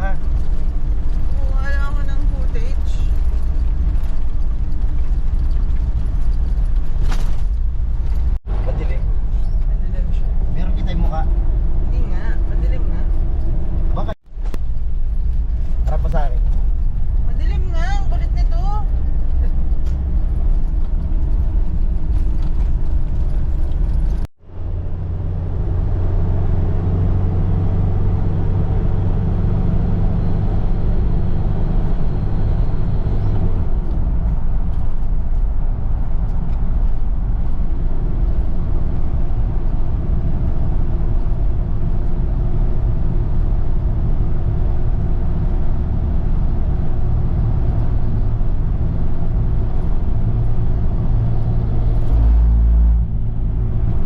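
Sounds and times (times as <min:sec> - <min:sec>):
road noise: 0:00.0 - 0:54.0
vehicle engine rumble: 0:00.0 - 0:54.0.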